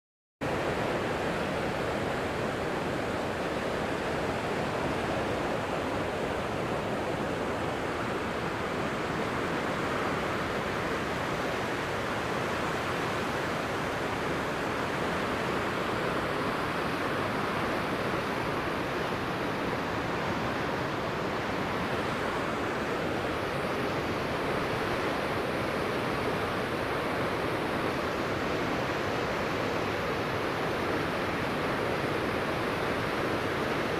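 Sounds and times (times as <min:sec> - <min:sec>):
water rushing through sluice gates: 0:00.5 - 0:33.9.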